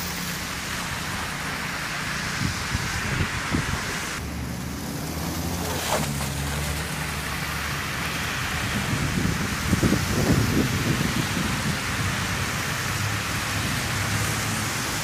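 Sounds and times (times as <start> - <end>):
passing car engines: 0.0 - 15.0
tyres hissing on wet road: 0.0 - 15.0.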